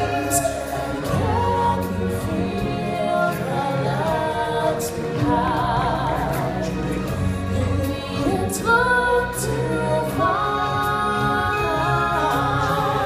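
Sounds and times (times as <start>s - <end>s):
band with heavy bass: 0.0s - 13.0s
choir singing: 0.0s - 13.0s.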